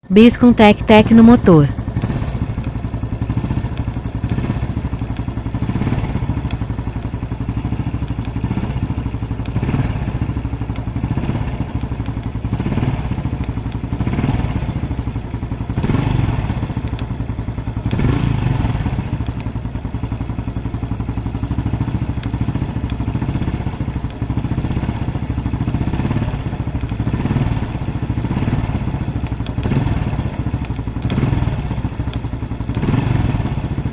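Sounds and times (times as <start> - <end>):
engine ticking: 1.3 - 33.9
motorcycle engine running: 1.7 - 33.9.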